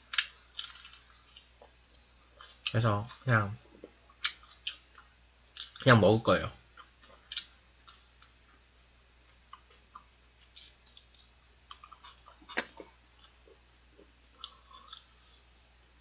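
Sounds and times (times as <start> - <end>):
person chewing with mouth clicks: 0.1 - 5.8, 6.8 - 8.4, 9.3 - 15.3.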